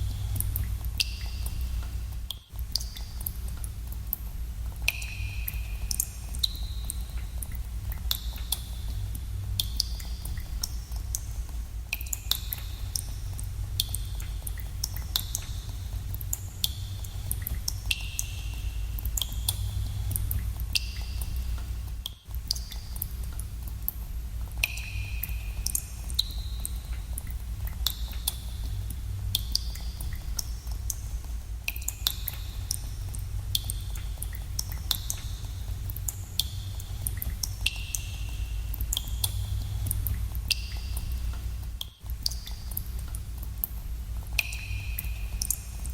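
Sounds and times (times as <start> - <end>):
water drops plinking into pools: 0.0 - 2.0, 4.8 - 11.3, 11.9 - 31.0, 31.6 - 45.9
steady low rumble: 0.0 - 45.9.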